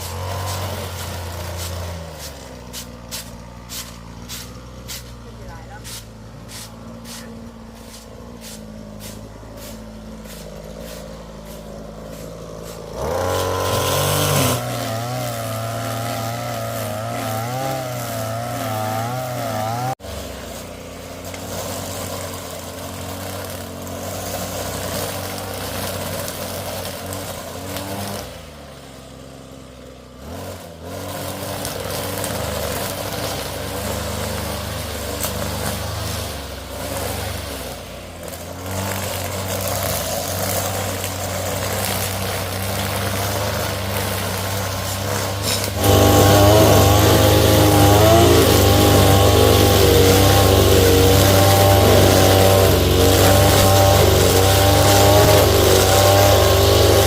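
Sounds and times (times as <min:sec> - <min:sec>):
motor engine running: 0:00.0 - 0:57.0.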